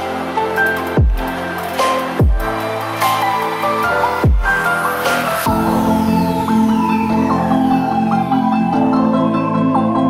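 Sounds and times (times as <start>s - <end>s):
electronic music with mallet melody: 0.0s - 10.0s.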